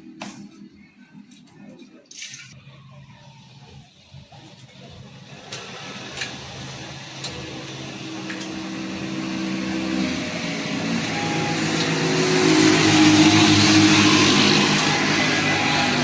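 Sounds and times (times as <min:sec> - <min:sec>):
small motorcycle engine running: 0:03.1 - 0:16.0.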